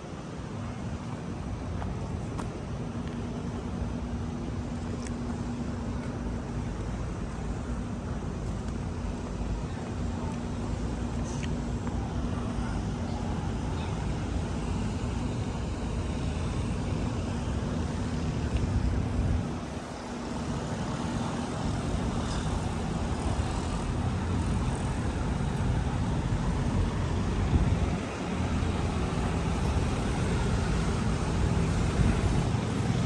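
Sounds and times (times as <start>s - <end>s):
road vehicle rumble: 0.1s - 33.0s.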